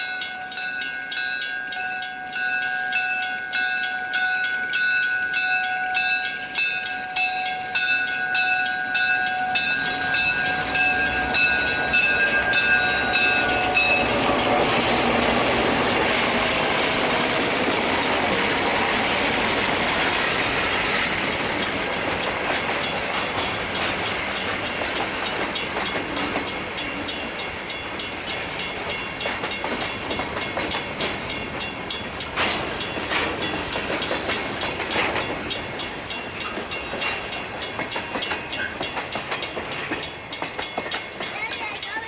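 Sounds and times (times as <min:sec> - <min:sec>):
freight train wheels clicking: 0:00.0 - 0:42.0.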